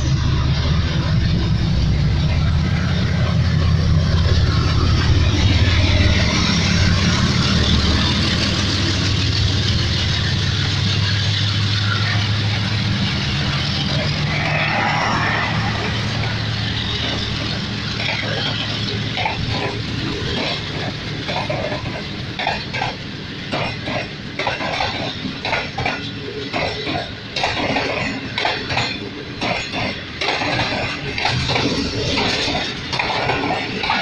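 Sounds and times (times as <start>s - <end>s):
train low rumble: 0.0s - 34.0s
train wheels clattering on track: 0.0s - 34.0s.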